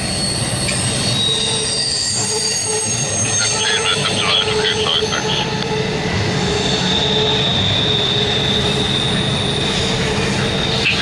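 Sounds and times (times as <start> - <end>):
freight train wheels rumbling: 0.0 - 11.0
high wheel squeal: 0.0 - 11.0.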